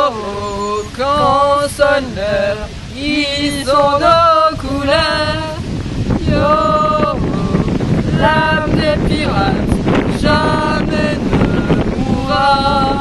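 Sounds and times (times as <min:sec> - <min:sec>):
two women singing unaccompanied: 0:00.0 - 0:13.0.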